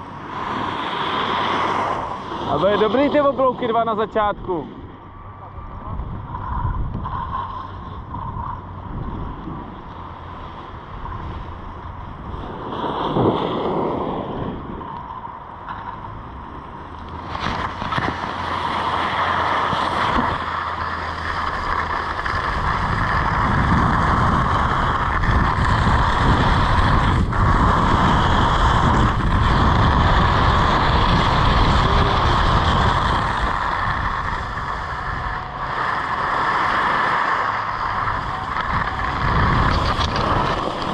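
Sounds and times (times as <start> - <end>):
wind rushing over microphone: 0.0 - 40.9
skis scraping over snow: 0.1 - 4.7, 6.4 - 14.7, 17.1 - 40.9.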